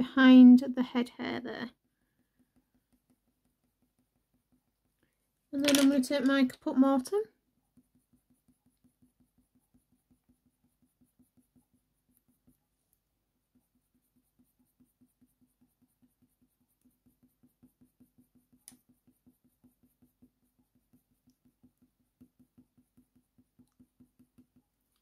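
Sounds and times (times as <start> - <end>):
pencil scratching on paper: 0.0 - 5.0, 6.3 - 25.0.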